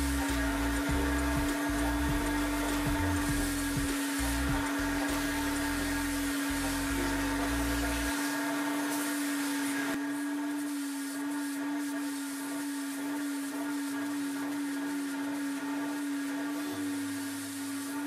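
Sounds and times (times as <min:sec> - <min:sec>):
carpet extractor motor whine: 0:00.0 - 0:18.0.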